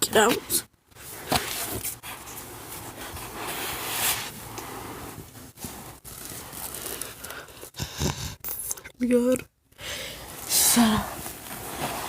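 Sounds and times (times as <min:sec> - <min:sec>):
blankets and clothing rustling: 0:00.1 - 0:07.8, 0:10.0 - 0:12.0.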